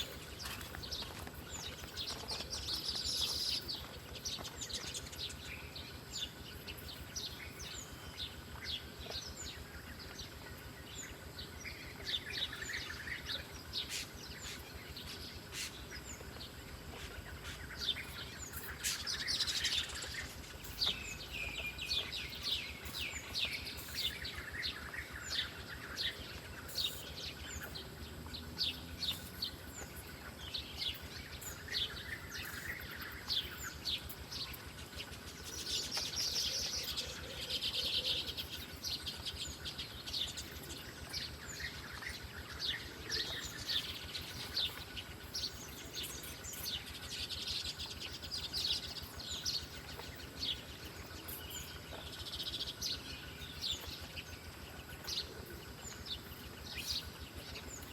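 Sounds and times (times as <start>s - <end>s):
small songbirds chirping: 0.0s - 57.9s.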